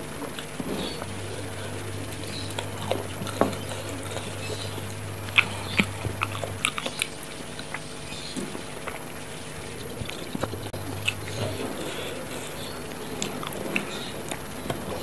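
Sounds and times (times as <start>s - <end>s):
steady low hum: 0.0s - 15.0s
mouth clicks and smacks: 0.3s - 9.1s, 9.7s - 14.9s
wet chewing and biting: 0.3s - 15.0s.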